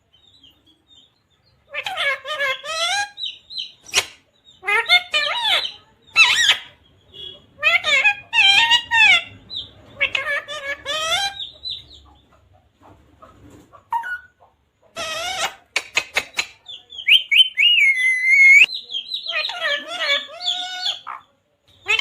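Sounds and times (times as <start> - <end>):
parrot chirps and squawks: 1.7 - 12.0, 13.9 - 22.0.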